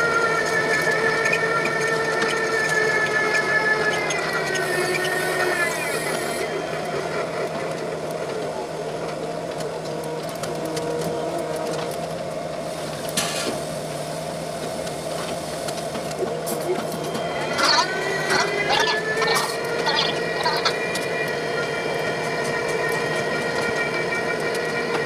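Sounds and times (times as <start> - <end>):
crane machinery humming: 0.0 - 25.0
high mechanical whine: 0.4 - 25.0.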